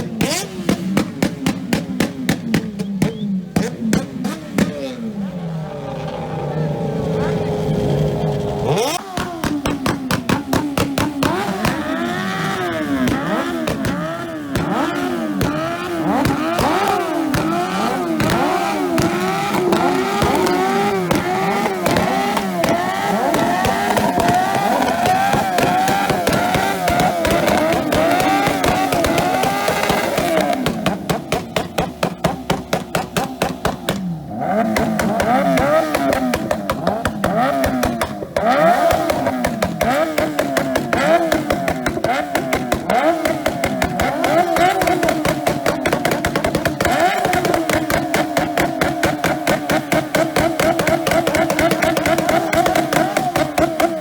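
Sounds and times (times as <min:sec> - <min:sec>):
motorcycle engines revving: 0:00.0 - 0:54.0
rapid sharp crackles: 0:07.1 - 0:54.0.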